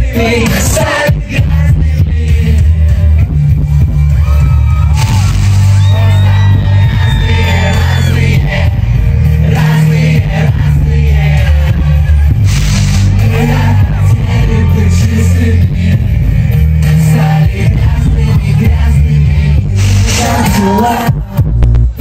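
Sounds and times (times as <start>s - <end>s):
live pop music with vocals: 0.0s - 22.0s.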